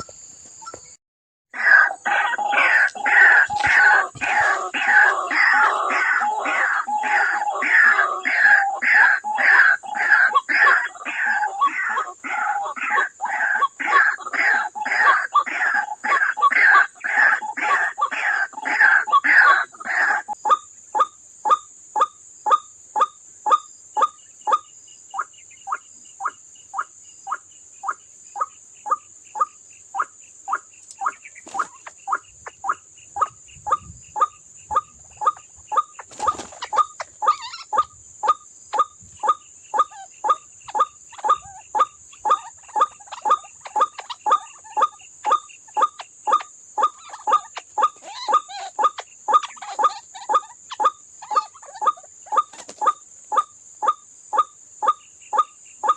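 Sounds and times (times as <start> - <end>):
waterhen calls: 1.5 - 55.9.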